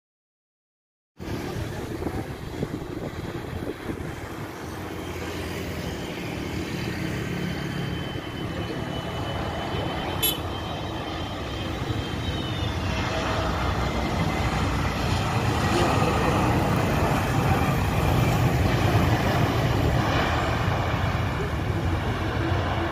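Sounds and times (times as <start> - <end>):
jet engines rumbling: 1.2 - 22.9.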